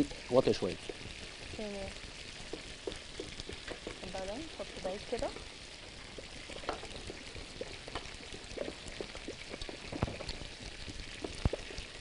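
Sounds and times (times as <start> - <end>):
custard bubbling in a pot: 0.0 - 12.0.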